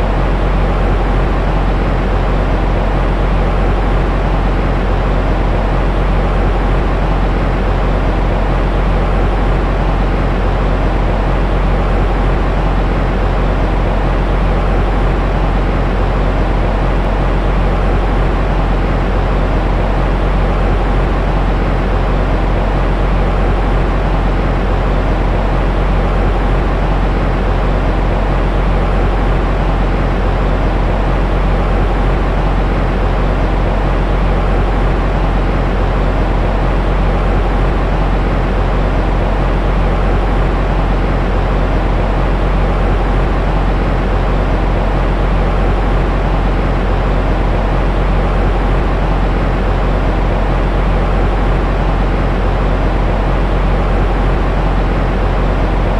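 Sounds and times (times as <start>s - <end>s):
white noise rumble: 0.0s - 55.9s.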